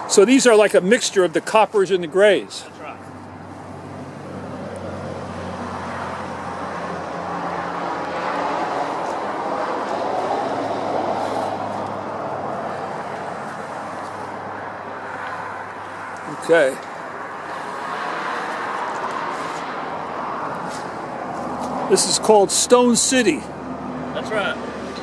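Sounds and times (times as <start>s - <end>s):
vehicle passing: 0.0s - 25.0s.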